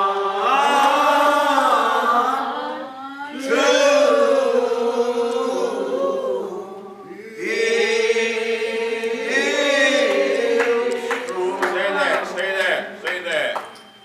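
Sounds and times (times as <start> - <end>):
church singing: 0.0 - 14.0.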